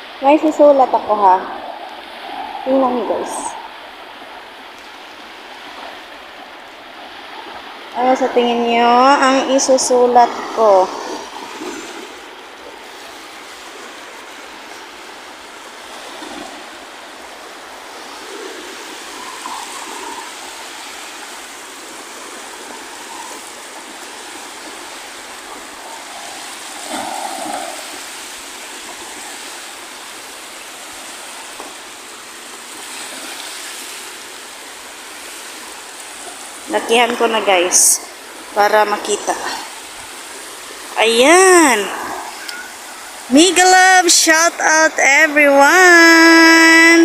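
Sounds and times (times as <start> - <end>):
small waves on shore: 0.0 - 47.0.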